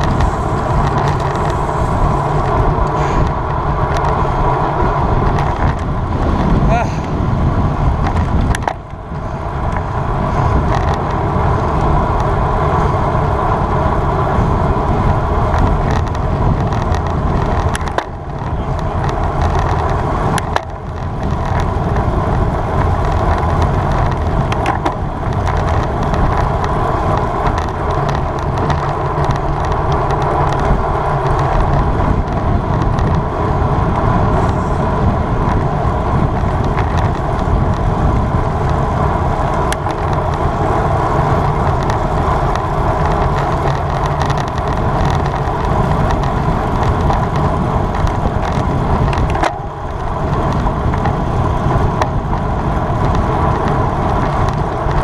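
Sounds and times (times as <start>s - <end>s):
bicycle road noise: 0.0s - 55.0s
wind rush: 0.0s - 55.0s.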